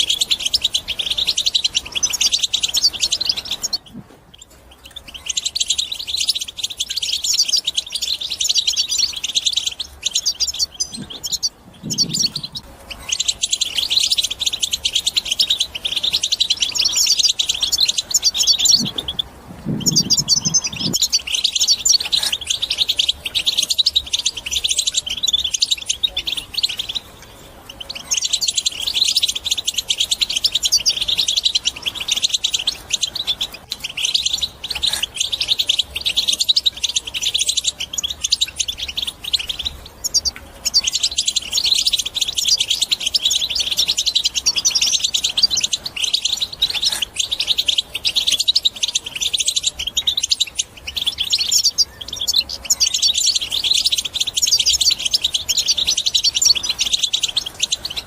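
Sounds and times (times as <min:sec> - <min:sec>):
finch twittering song: 0:00.0 - 0:58.0.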